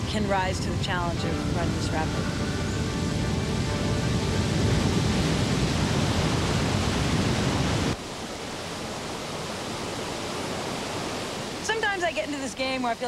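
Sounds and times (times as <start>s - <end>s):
whitewater rushing in river rapid: 0.0s - 13.0s.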